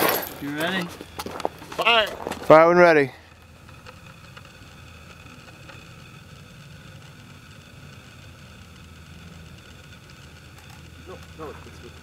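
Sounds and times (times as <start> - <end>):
low rumbling hum with hiss: 0.0 - 12.0.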